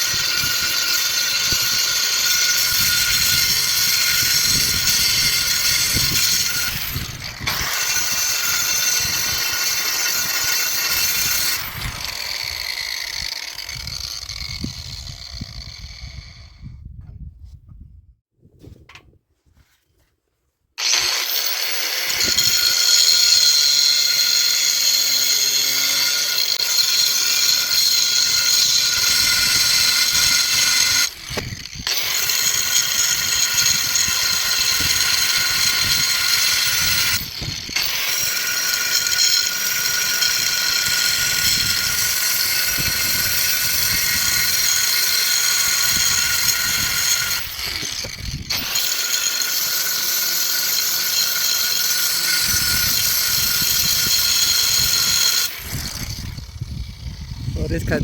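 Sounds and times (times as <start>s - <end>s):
power tool cutting with high whine: 0.0s - 16.4s, 20.8s - 58.0s.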